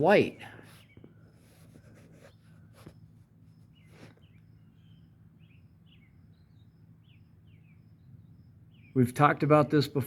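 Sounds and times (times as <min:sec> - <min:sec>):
faint birds chirping: 0:00.0 - 0:10.0
low steady hum: 0:00.0 - 0:10.0.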